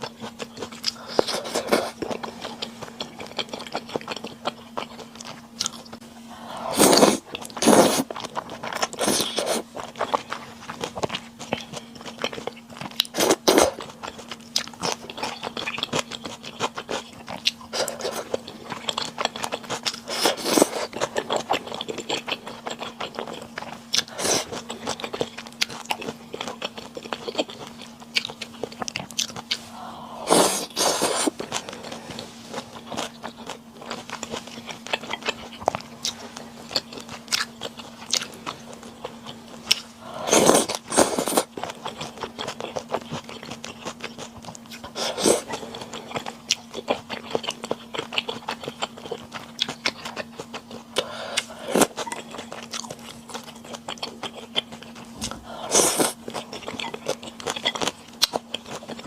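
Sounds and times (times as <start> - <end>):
faint steady hum: 0.0 - 59.0
person chewing crunchy food: 0.0 - 59.0.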